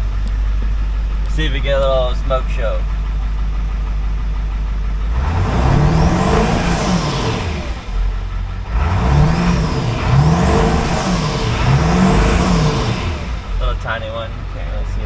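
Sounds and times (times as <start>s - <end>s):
diesel engine revving: 0.0s - 15.0s
turbo whine: 0.0s - 15.0s.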